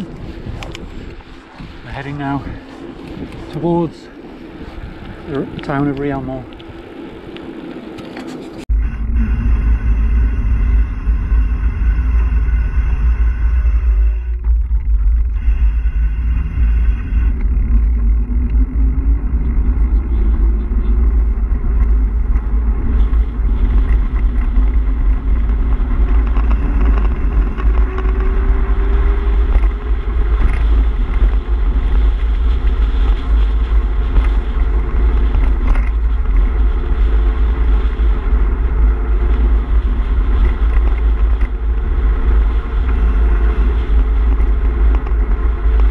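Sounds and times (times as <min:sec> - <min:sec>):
bike tyre rumble on tarmac: 0:00.0 - 0:45.9
faint hum rising in pitch: 0:00.0 - 0:45.9
wind buffeting microphone: 0:00.0 - 0:45.9.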